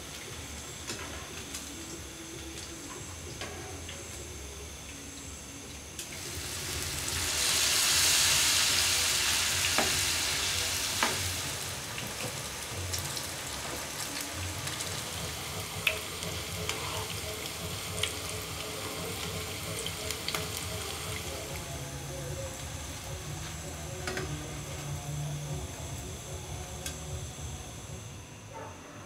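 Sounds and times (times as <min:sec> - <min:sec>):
batter sizzling in hot oil: 0:00.0 - 0:28.1.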